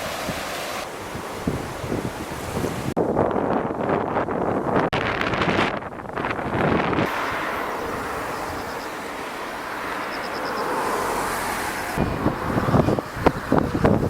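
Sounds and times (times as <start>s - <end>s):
flooded river rushing: 0.0s - 3.5s, 4.3s - 14.0s
wind buffeting microphone: 0.0s - 14.0s.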